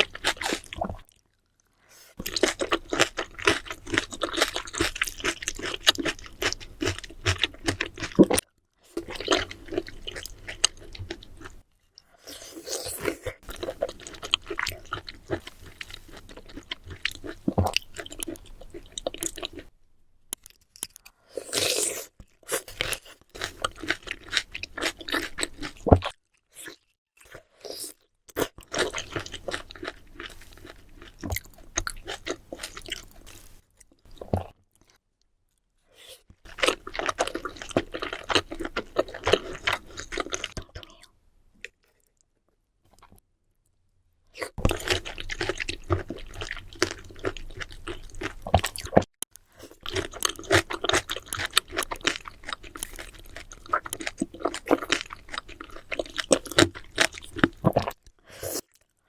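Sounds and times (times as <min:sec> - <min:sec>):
wet chewing and crunching: 0:00.0 - 0:19.7, 0:20.3 - 0:35.0, 0:36.4 - 0:43.2, 0:44.4 - 0:59.0.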